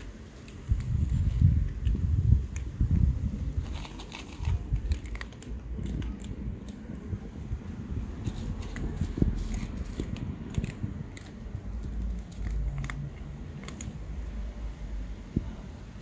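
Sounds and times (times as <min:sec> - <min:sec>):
cats crunching dry kibble: 0:00.0 - 0:15.7.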